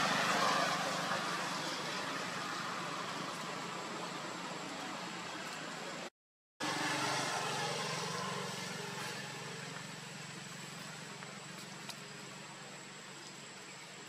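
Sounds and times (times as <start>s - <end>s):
low engine-like drone: 0.0s - 14.0s.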